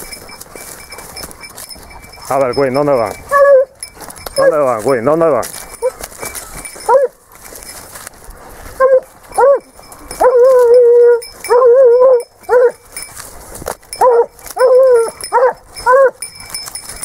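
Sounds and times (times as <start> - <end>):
hound baying: 0.0 - 7.7, 8.5 - 17.0.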